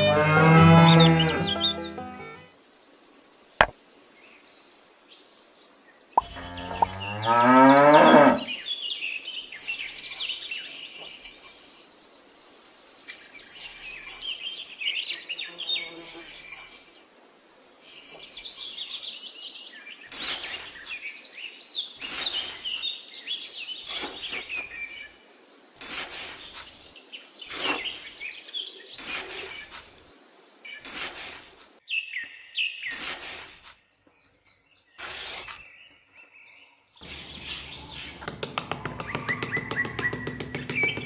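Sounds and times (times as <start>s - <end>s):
birds chirping: 0.0s - 33.3s, 33.9s - 41.0s.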